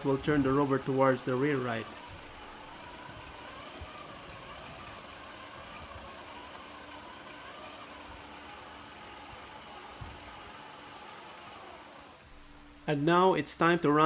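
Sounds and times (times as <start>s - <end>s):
small electric motors whining: 0.0s - 12.8s.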